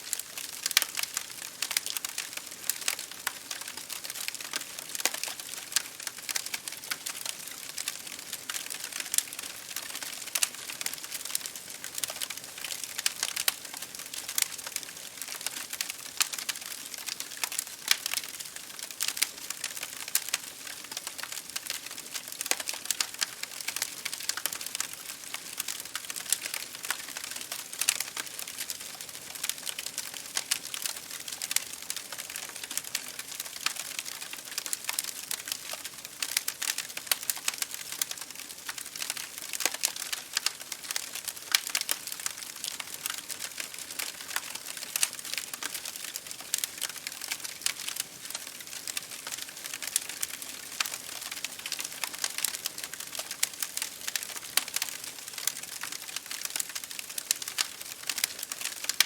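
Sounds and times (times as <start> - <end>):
wood fire crackling: 0.0 - 59.0
rain hitting a window: 0.1 - 59.0.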